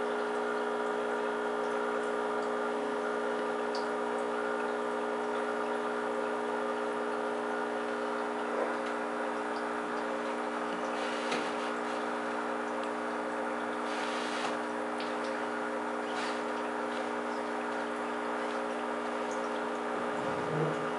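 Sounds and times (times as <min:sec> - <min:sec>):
aquarium pump humming: 0:00.0 - 0:20.9.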